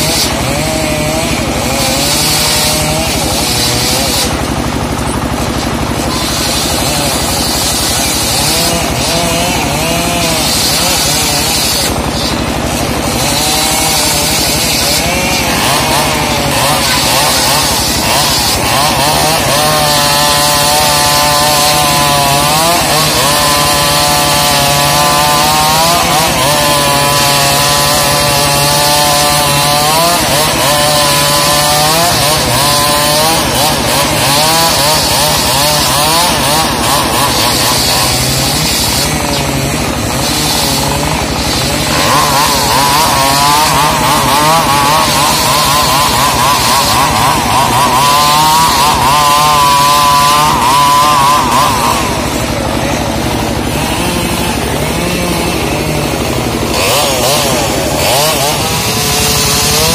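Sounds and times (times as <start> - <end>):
circular saw cutting wood: 0.0 - 59.9
saw blade whine: 0.0 - 59.9.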